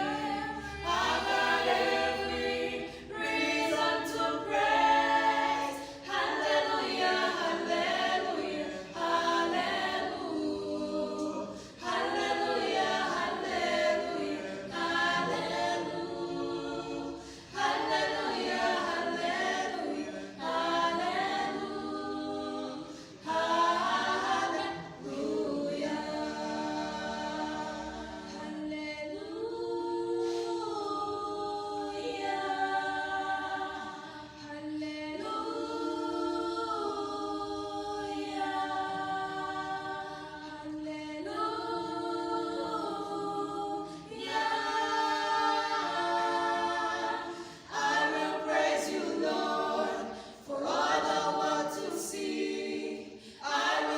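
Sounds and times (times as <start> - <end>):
choir singing a cappella: 0.0 - 53.9.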